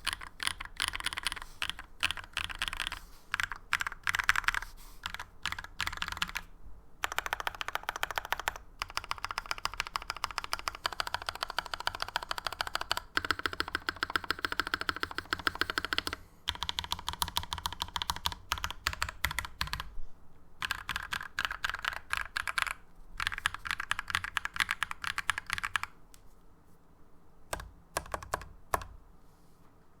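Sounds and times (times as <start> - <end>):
mechanical keyboard typing: 0.0 - 19.9, 20.6 - 25.9, 27.5 - 29.0.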